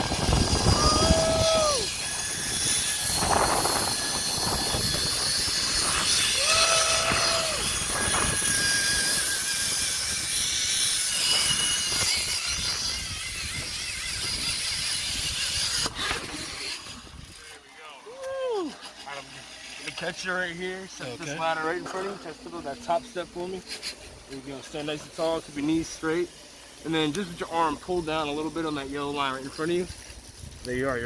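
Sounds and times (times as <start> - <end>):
zipline trolley whirring on cable: 0.0 - 30.6.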